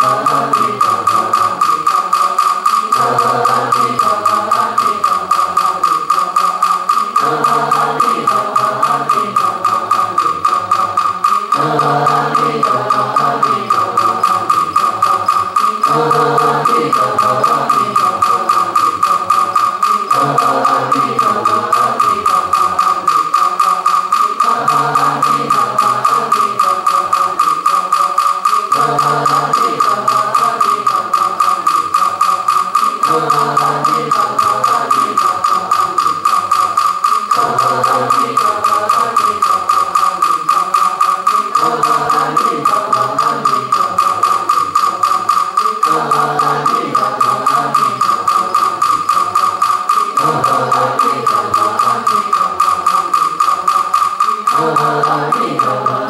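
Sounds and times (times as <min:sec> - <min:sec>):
voices chanting: 0:00.0 - 0:56.0
wooden fish struck with mallet: 0:00.0 - 0:56.0.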